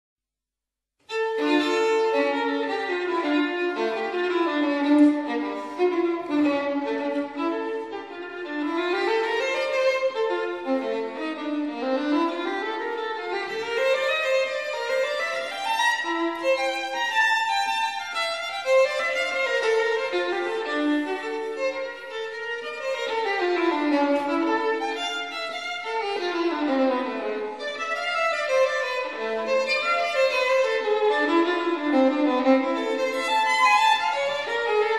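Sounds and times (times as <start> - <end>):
bowed string melody: 1.1 - 34.9.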